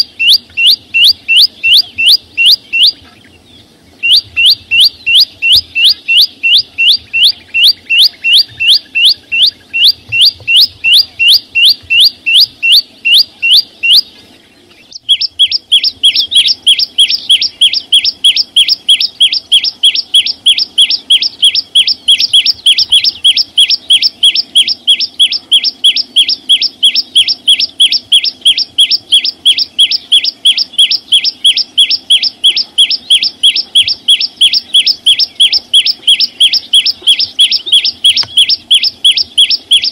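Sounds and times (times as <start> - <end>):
small songbird singing: 0.0 - 39.9.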